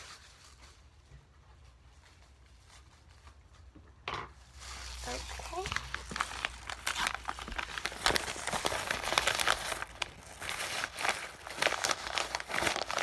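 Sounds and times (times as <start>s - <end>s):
plastic bags and paper crinkling: 0.0s - 13.0s.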